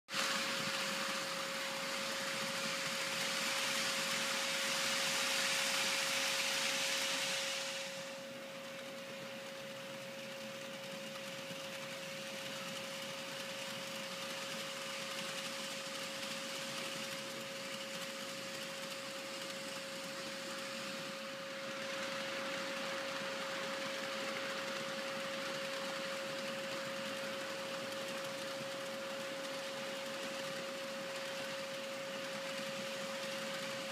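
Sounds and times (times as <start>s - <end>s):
model train wheels rolling: 0.1s - 33.9s
constant high hum: 0.2s - 33.9s.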